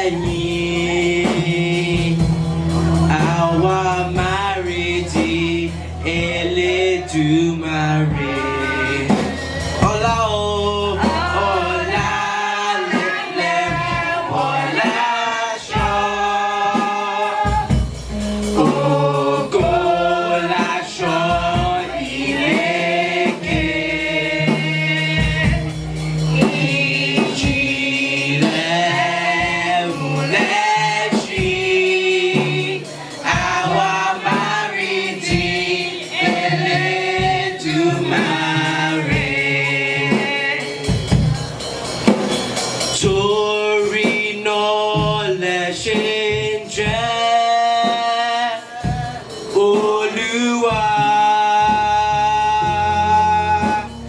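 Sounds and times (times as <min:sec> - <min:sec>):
church choir singing a hymn: 0:00.0 - 0:41.9, 0:42.8 - 0:54.0.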